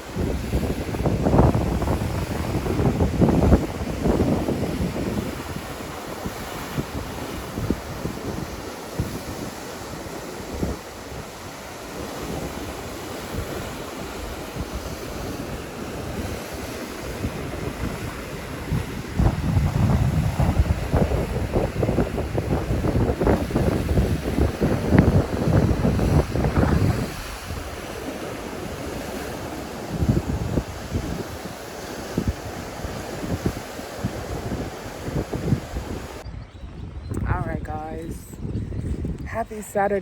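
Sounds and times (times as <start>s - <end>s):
surf washing on a beach: 0.0s - 36.2s
wind buffeting microphone: 0.0s - 40.0s.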